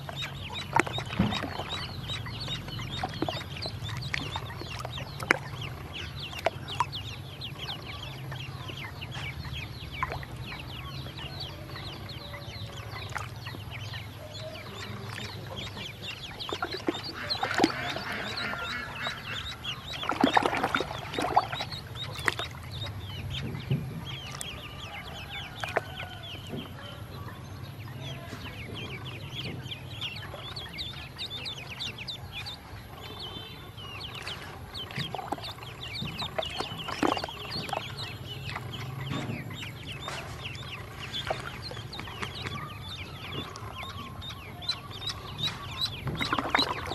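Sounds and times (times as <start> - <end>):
ducklings peeping: 0.0 - 46.9.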